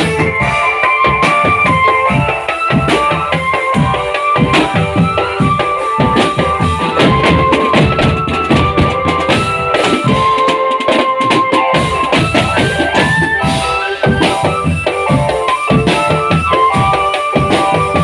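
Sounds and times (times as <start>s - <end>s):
marching drum band: 0.0s - 18.0s
melody of held notes: 0.0s - 18.0s.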